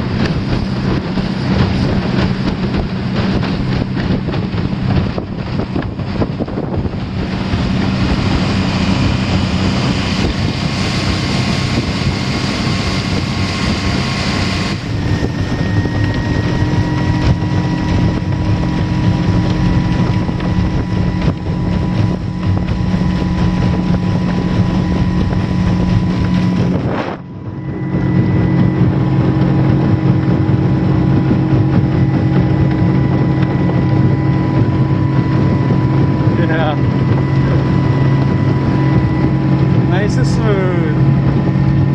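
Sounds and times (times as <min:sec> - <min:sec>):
outboard motor droning with whine: 0:00.0 - 0:41.9
wind noise on microphone: 0:00.0 - 0:41.9.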